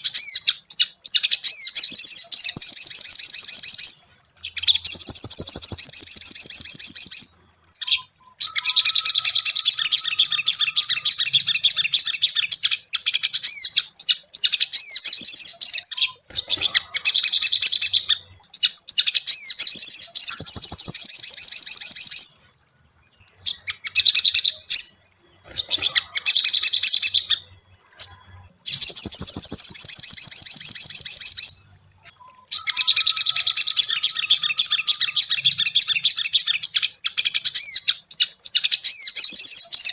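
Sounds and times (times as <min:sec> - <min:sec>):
bird singing chattering trills: 0:00.0 - 0:39.9.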